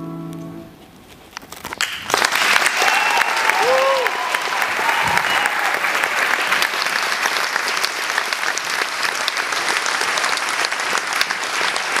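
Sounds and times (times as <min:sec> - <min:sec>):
audience clapping: 0:01.7 - 0:12.0.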